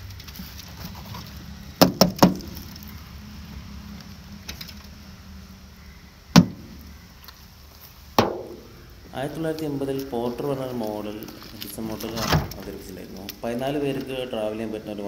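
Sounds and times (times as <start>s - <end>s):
dry leaves rustling: 0.0s - 15.0s.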